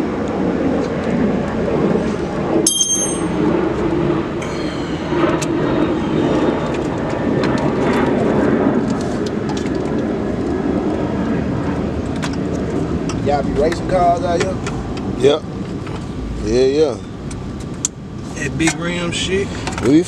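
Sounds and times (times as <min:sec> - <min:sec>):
engine-like rumble: 0:00.0 - 0:20.0.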